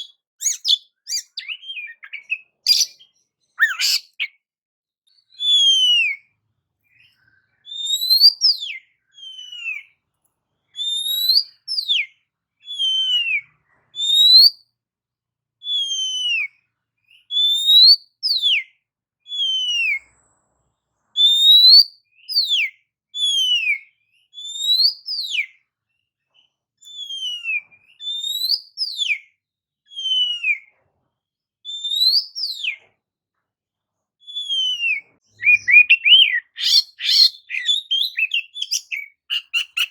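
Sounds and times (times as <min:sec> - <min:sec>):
bird singing whistled notes: 0:00.0 - 0:04.4, 0:05.1 - 0:06.3, 0:06.9 - 0:10.0, 0:10.8 - 0:14.7, 0:15.6 - 0:20.1, 0:21.2 - 0:25.6, 0:26.3 - 0:30.8, 0:31.6 - 0:32.8, 0:34.2 - 0:39.9.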